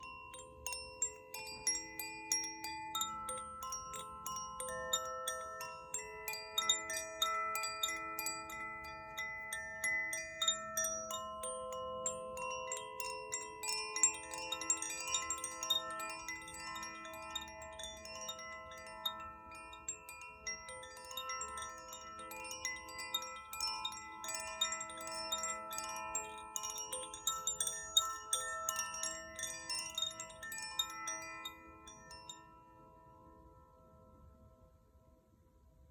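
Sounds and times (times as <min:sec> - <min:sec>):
wind chime tinkling: 0:00.0 - 0:34.6.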